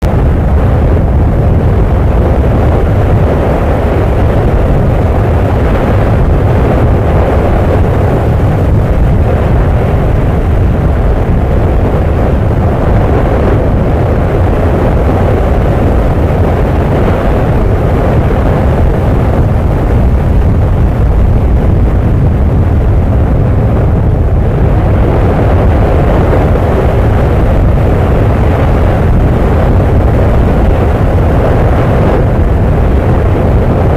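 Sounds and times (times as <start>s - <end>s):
volcano deep rumbling roar: 0.0s - 33.9s.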